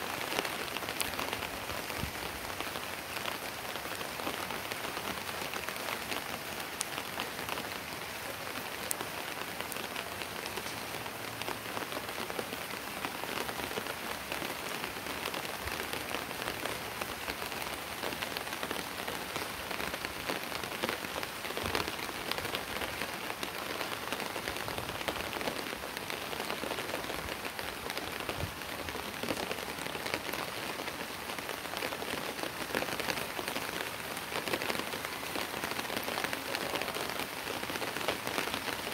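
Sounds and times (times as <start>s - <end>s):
rain on concrete roof: 0.0s - 38.9s.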